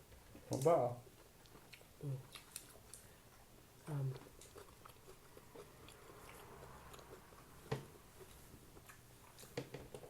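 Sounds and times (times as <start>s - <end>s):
person chewing with mouth clicks: 0.6s - 9.6s.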